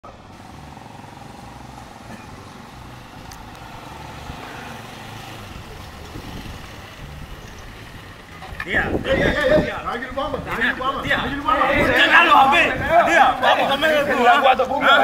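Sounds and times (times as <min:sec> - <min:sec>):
motorcycle engine approaching: 0:00.0 - 0:15.0.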